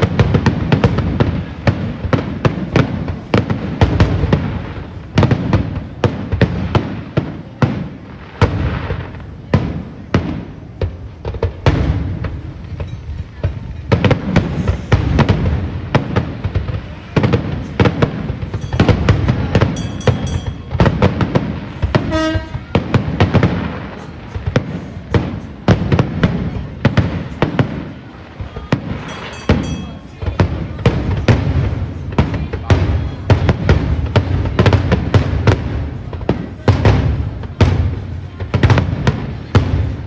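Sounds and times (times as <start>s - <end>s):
fireworks bangs and booms: 0.0s - 40.0s.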